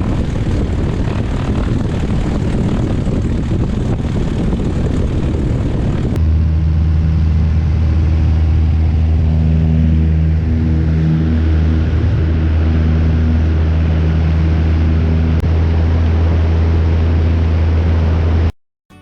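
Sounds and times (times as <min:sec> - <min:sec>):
light aircraft engine and propeller: 0:00.0 - 0:18.5
deep drone with pitched hum: 0:00.0 - 0:19.0.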